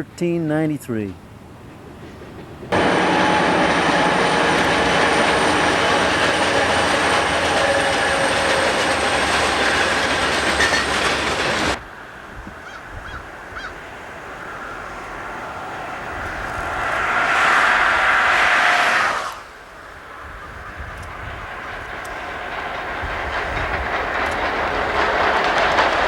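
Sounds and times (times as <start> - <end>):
train wheels on rails: 0.0 - 12.6, 13.3 - 26.0.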